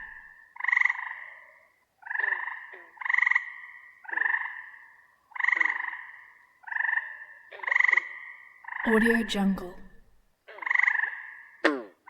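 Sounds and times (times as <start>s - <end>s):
frog croaking: 0.0s - 12.0s.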